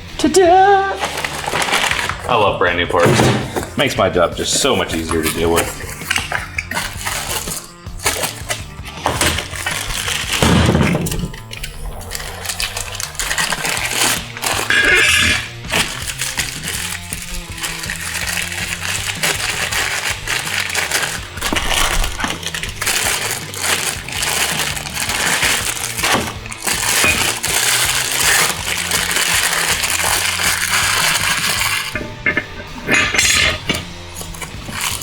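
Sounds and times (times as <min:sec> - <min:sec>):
background music: 0:00.0 - 0:35.0
small metal parts clinking: 0:04.9 - 0:35.0.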